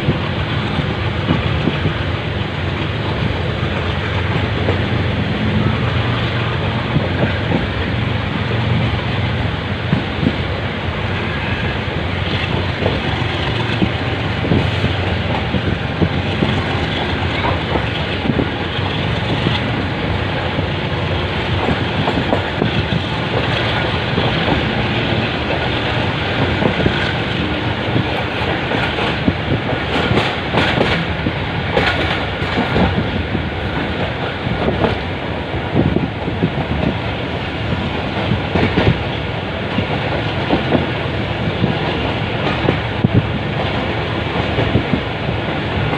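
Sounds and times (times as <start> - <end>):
train rumbling and rattling: 0.0 - 45.9.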